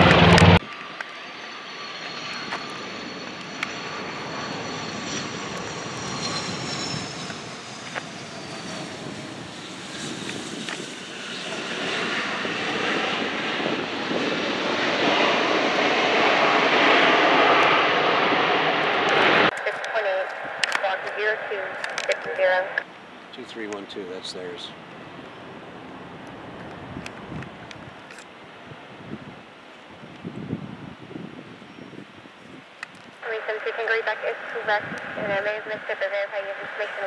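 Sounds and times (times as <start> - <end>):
airplane engine rumble: 0.0 - 37.0
airplane engine whine: 0.0 - 37.0.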